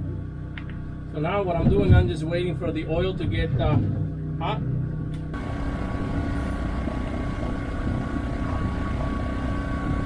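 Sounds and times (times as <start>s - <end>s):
motor humming with high whine: 0.0s - 10.0s.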